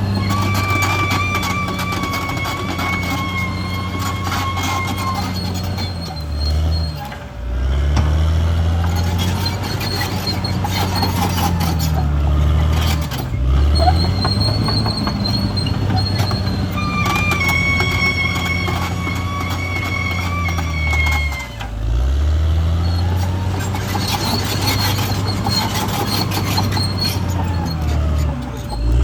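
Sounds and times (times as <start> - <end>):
high squeal of steel tracks: 0.0 - 7.2, 8.9 - 22.0, 22.6 - 29.0
bulldozer diesel engine lugging: 0.0 - 29.0.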